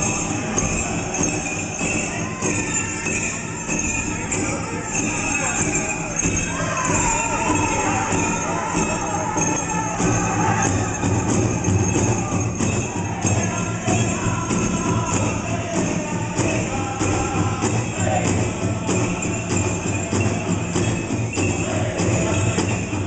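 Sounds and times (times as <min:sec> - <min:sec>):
bells jingling: 0:00.0 - 0:23.0
group singing: 0:00.0 - 0:23.0
steady drumbeat: 0:00.0 - 0:23.0.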